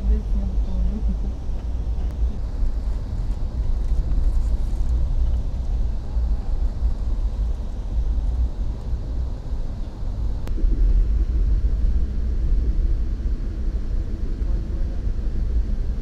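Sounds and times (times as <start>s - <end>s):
vehicle cabin rumble: 0.0s - 16.0s.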